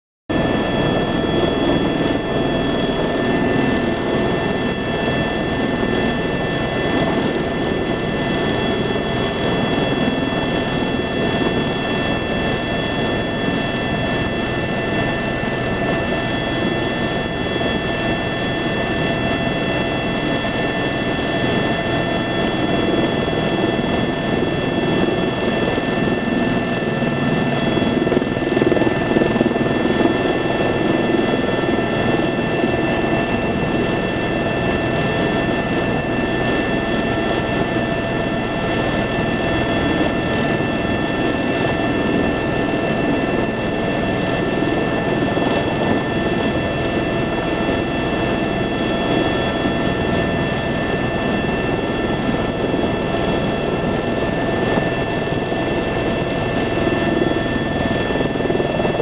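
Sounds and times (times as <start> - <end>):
helicopter rotor rumble: 0.3 - 59.0
helicopter turbine whine: 0.3 - 59.0.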